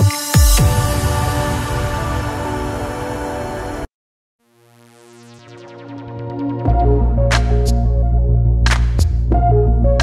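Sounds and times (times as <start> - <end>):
electronic music: 0.0 - 3.9, 4.5 - 10.0.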